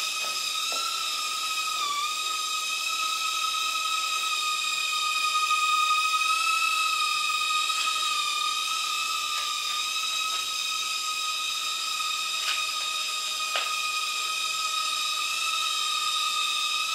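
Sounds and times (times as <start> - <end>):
quadcopter motors whining: 0.0 - 16.9.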